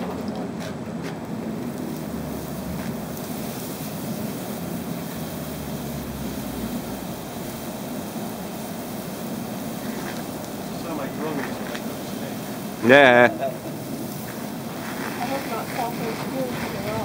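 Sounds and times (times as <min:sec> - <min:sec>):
forge fire and blower rushing: 0:00.0 - 0:17.0.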